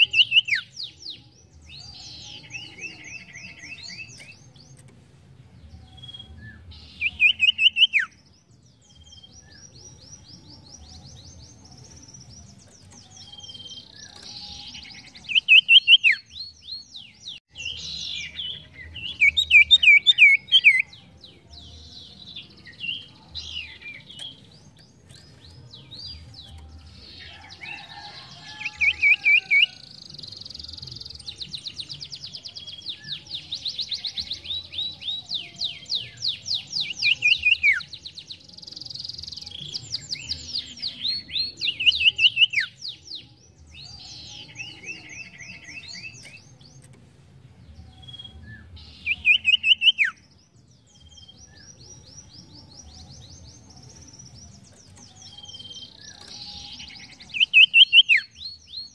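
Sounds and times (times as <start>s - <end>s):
songbird chirping and trilling: 0.0s - 58.9s.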